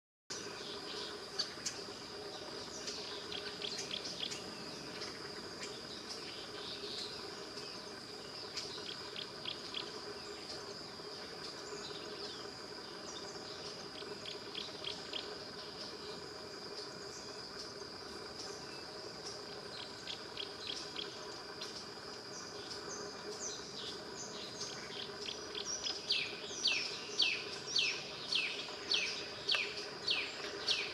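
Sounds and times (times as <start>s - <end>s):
high-pitched insect drone: 0.3s - 30.9s.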